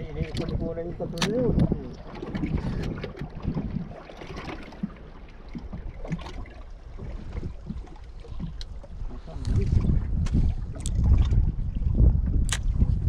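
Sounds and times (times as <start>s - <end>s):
wind noise: 0.0s - 4.9s, 5.5s - 13.0s
water lapping against boat hull: 0.0s - 13.0s.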